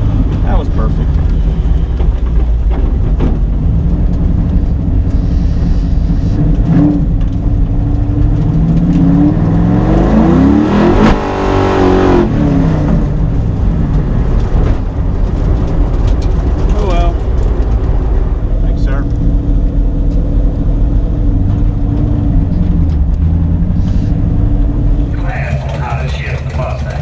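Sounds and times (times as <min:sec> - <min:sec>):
drag car engine accelerating: 0:00.0 - 0:18.4, 0:20.5 - 0:27.0.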